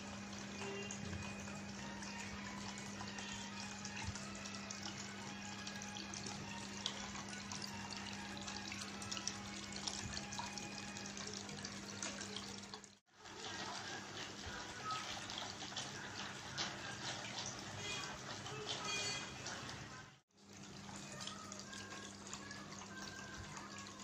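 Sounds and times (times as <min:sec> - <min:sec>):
fountain water trickling and splashing: 0:00.0 - 0:24.0.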